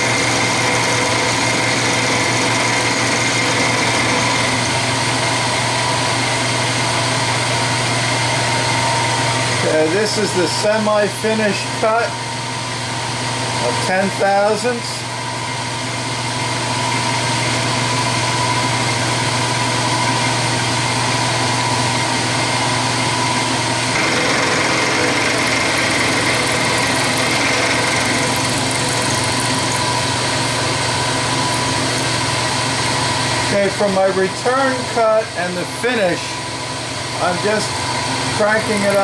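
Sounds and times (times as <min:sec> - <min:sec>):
high machine whine: 0:00.0 - 0:39.0
milling machine hum: 0:00.0 - 0:39.0.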